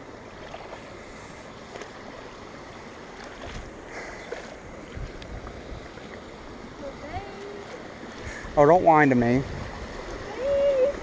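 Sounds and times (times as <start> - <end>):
water rushing over concrete edge: 1.7 - 11.0.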